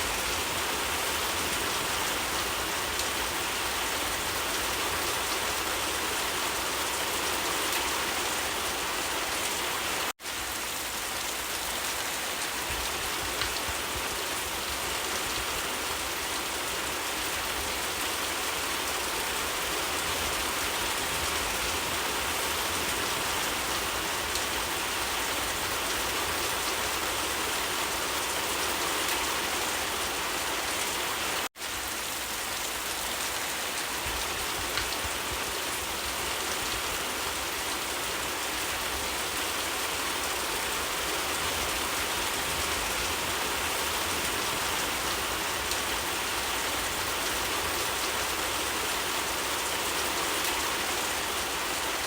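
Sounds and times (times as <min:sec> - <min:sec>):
rain pattering on surfaces: 0:00.0 - 0:52.0.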